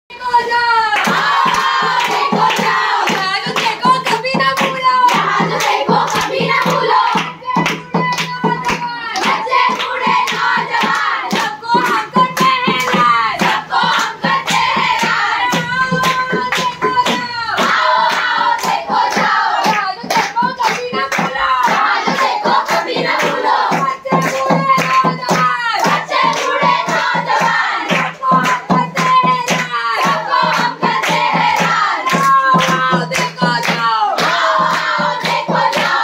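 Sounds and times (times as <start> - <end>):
people singing together: 0.1 - 36.0
steady hand clapping: 0.9 - 36.0.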